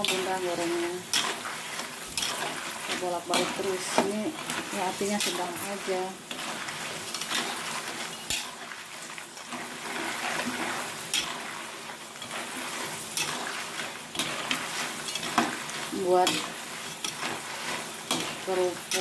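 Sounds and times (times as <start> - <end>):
metal spatula scraping a wok: 0.0 - 19.0
oil sizzling: 0.0 - 19.0.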